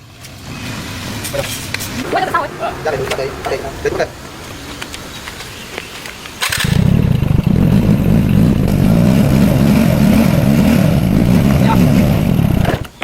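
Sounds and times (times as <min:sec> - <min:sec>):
motorbike engine starting and running: 0:00.2 - 0:13.0.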